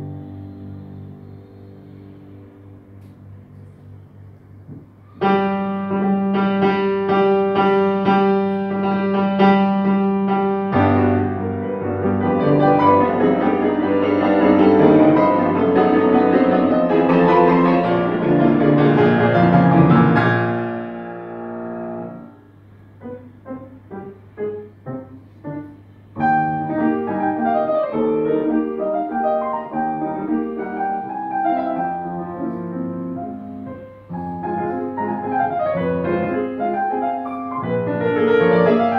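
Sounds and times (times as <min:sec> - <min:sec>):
solo piano: 0:00.0 - 0:38.9.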